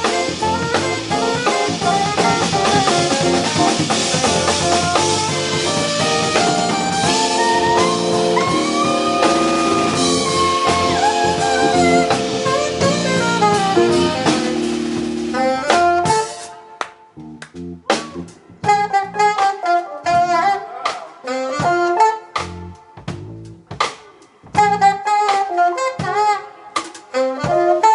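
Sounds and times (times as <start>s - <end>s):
saxophone: 0.0s - 16.8s, 17.9s - 23.0s, 24.5s - 27.9s
jazz band playing: 0.0s - 27.9s.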